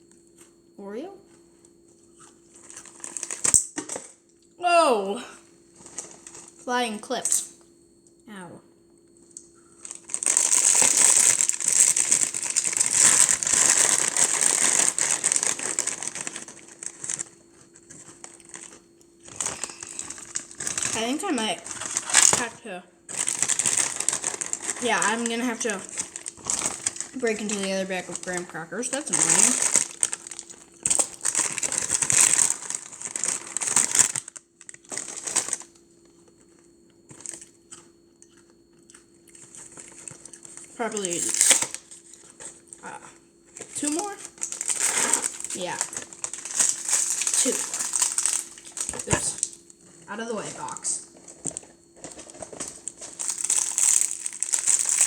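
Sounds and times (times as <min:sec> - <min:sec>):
plastic packaging crinkling: 0:02.2 - 0:04.0, 0:05.7 - 0:06.7, 0:09.7 - 0:42.8, 0:43.5 - 0:49.8, 0:50.4 - 0:55.0.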